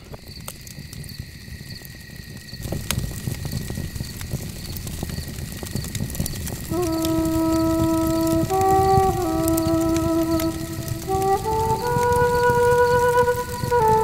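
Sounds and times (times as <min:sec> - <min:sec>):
campfire crackling: 0:00.0 - 0:14.0
crickets chirping: 0:00.0 - 0:14.0
low wind-like rumble: 0:00.0 - 0:14.0.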